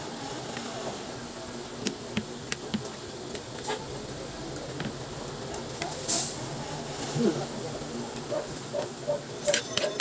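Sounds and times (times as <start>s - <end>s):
steady hiss: 0.0s - 9.6s.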